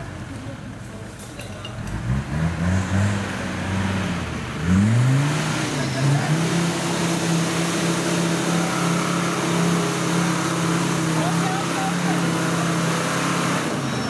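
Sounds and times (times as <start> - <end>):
truck engine revving: 1.8 - 14.0.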